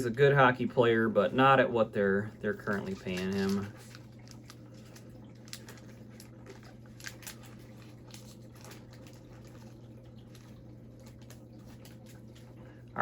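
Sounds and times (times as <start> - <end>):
steady low hum: 0.0 - 13.0
trading cards and wrappers rustling: 2.1 - 12.6.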